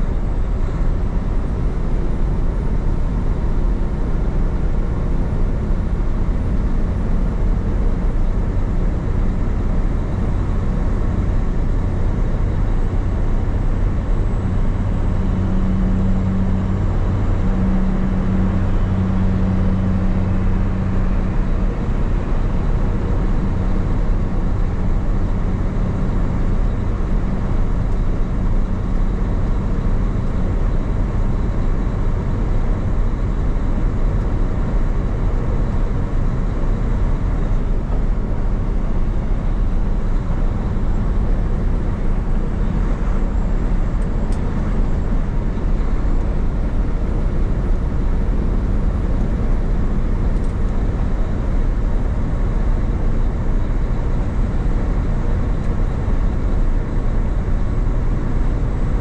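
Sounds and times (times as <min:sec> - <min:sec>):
diesel engine drone: 0:00.0 - 0:59.0
road and tyre noise: 0:00.0 - 0:59.0.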